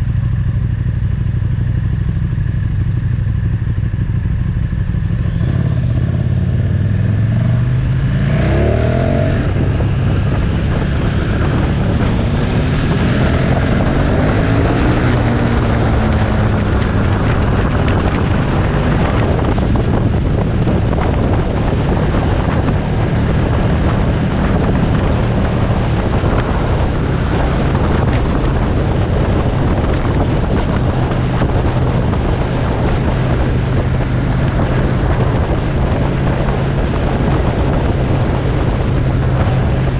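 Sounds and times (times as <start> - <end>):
motorcycle engine running: 0.0 - 39.9
wind rushing over microphone: 3.2 - 39.9.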